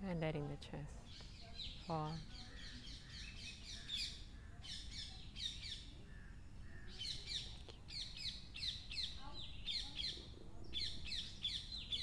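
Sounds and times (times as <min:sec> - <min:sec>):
birds chirping: 0:00.8 - 0:12.0.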